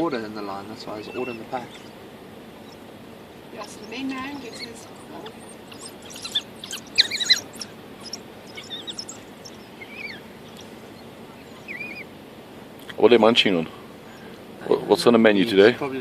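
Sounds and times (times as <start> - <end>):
wild dogs chirping: 0.0 - 15.1.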